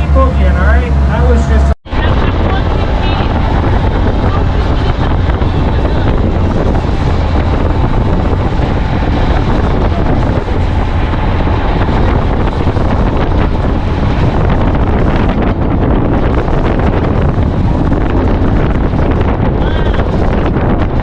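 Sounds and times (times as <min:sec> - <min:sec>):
boat rushing through water: 0:00.0 - 0:21.0
wind buffeting microphone: 0:00.0 - 0:21.0.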